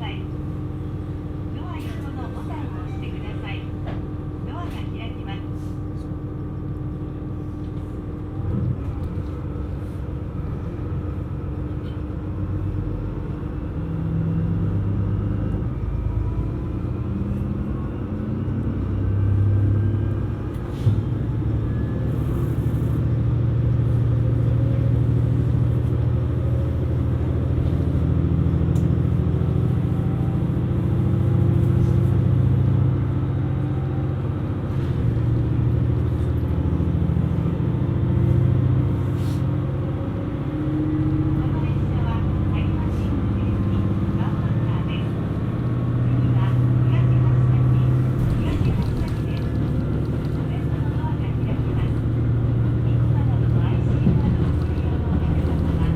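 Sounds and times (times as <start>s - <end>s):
diesel railcar engine droning: 0.0s - 55.9s.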